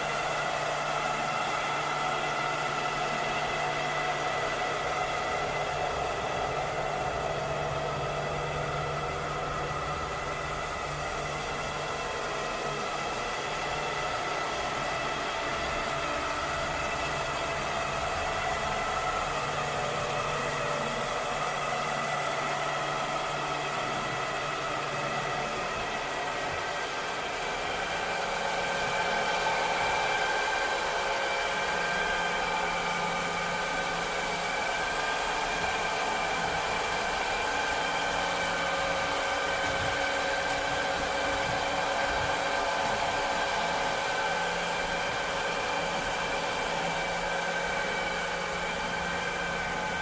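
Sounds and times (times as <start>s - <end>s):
robot vacuum cleaner whirring: 0.0s - 50.0s.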